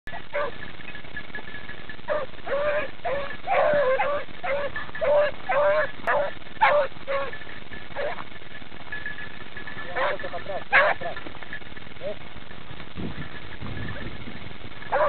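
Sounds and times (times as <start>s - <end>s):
dogs baying and yelping: 0.1s - 12.3s, 14.8s - 15.0s.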